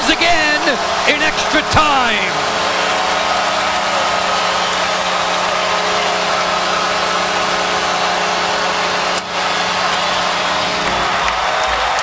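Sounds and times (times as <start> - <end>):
crowd cheering: 0.0 - 12.0.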